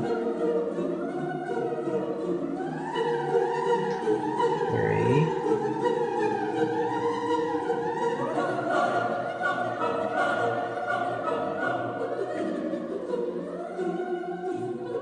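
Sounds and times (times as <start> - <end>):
choir singing with orchestra: 0.0 - 15.0.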